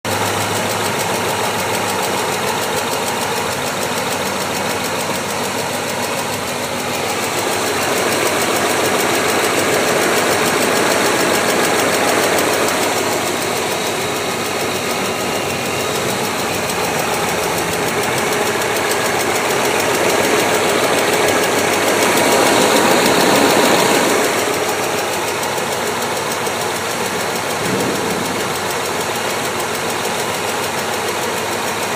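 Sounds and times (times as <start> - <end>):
car engine running with ticking: 0.0 - 31.9.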